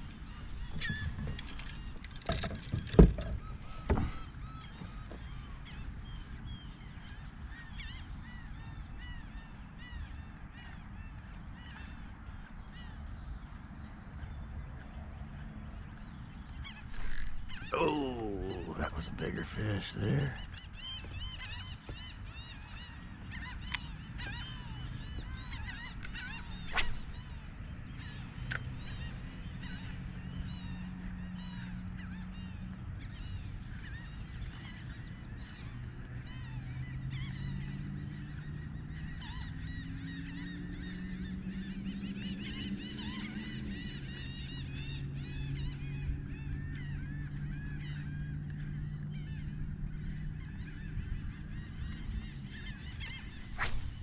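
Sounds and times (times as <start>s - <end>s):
low droning hum: 0.0s - 19.4s, 20.4s - 54.0s.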